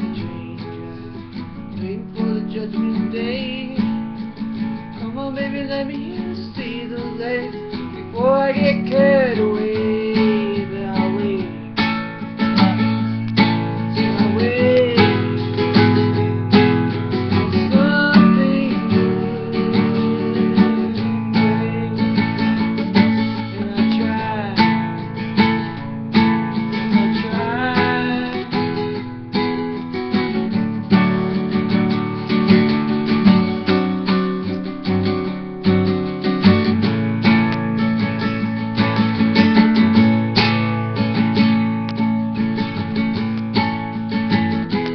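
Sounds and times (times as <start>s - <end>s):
classical guitar strumming: 0.0s - 44.9s.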